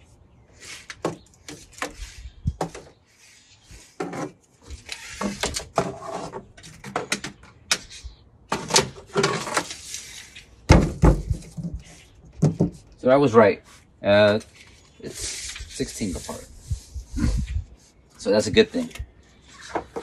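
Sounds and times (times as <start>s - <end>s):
scraping rustles: 0.5s - 13.0s, 13.6s - 20.0s.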